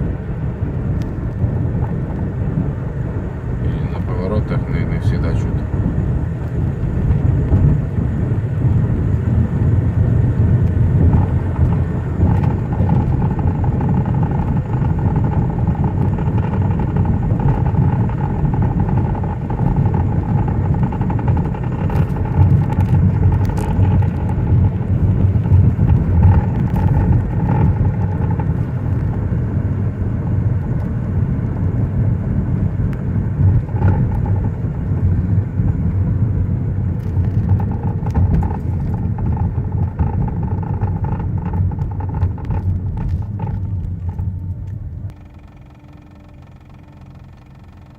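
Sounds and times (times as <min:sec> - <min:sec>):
faint steady whine: 0:00.0 - 0:47.9
road and tyre rumble: 0:00.0 - 0:47.9.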